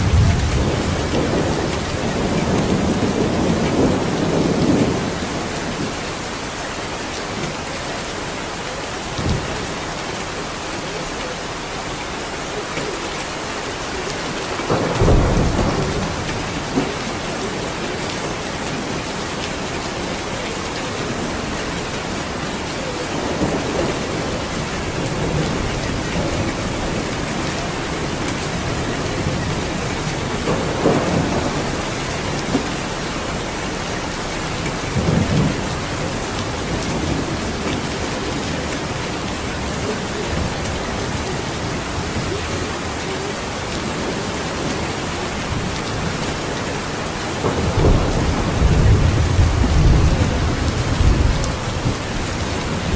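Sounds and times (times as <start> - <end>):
rolling thunder rumbles: 0.0 - 6.4, 14.4 - 52.9
heavy rain hissing: 0.0 - 52.9.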